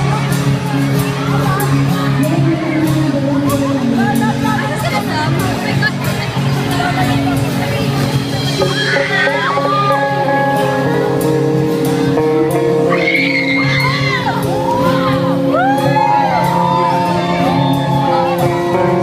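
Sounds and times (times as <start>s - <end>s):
fans shouting and screaming: 0.0s - 11.6s, 12.6s - 19.0s
live rock band playing: 0.0s - 19.0s.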